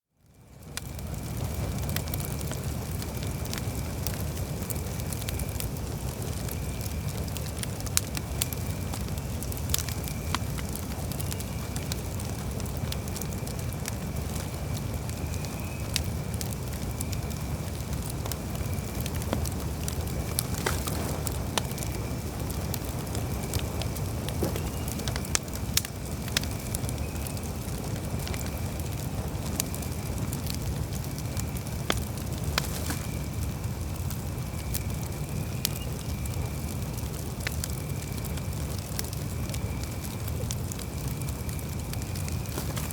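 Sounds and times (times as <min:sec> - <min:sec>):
campfire crackling: 0:00.2 - 0:42.9.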